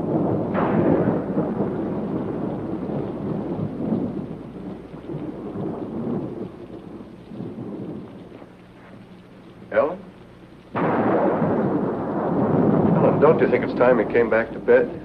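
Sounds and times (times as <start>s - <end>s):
rain hissing: 0.0s - 15.0s
thunder crack and rumble: 0.0s - 15.0s.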